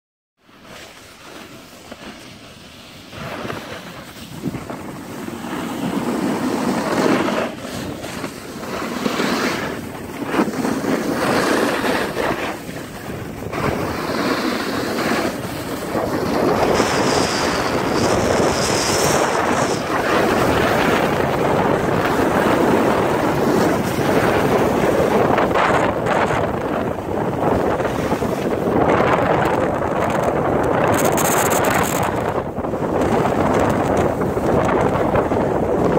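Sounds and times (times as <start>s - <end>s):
skis scraping on packed snow: 0.4s - 35.9s
wind rushing over microphone: 1.5s - 35.9s.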